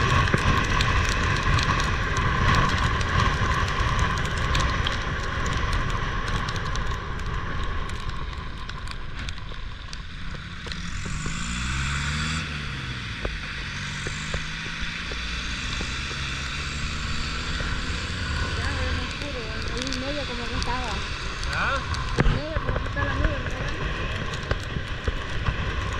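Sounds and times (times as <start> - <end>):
heavy rain falling: 0.0 - 11.5, 12.2 - 25.9
raindrops ticking near microphone: 0.0 - 25.9
vehicle engine: 0.0 - 25.9.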